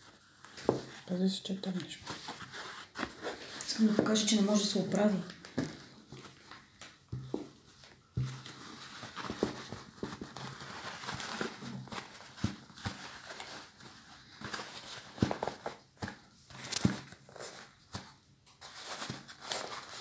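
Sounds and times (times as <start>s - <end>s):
cloth hat rustling: 0.0s - 17.8s.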